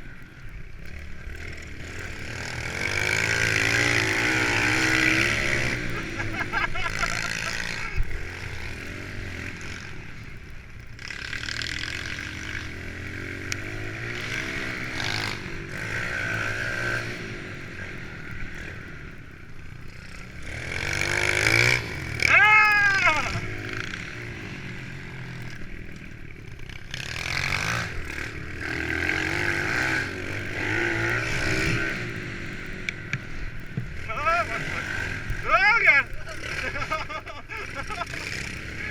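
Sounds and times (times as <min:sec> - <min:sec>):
pit bikes revving: 0:00.0 - 0:38.9
bike revving hard close by: 0:00.9 - 0:10.2, 0:11.0 - 0:19.0, 0:19.9 - 0:22.3, 0:23.0 - 0:38.9.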